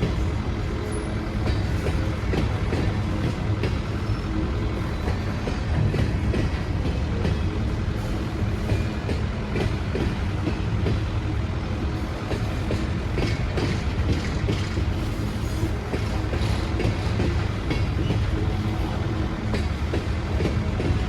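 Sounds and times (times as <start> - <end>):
train running low drone: 0.0 - 21.0.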